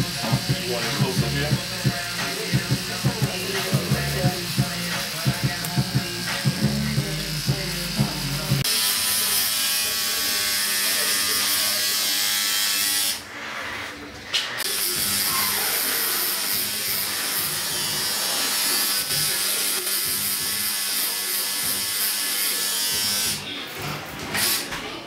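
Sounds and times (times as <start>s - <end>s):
tattoo machine buzzing: 0.0s - 13.2s, 14.6s - 23.4s.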